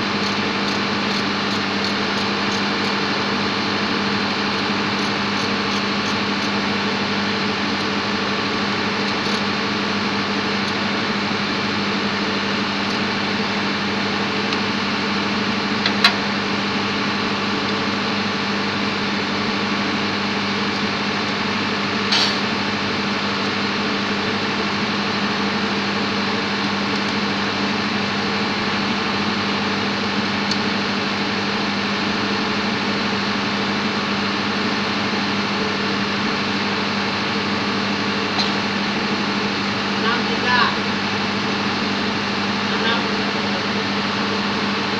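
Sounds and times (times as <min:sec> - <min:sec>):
engine-room machinery drone: 0:00.0 - 0:44.9.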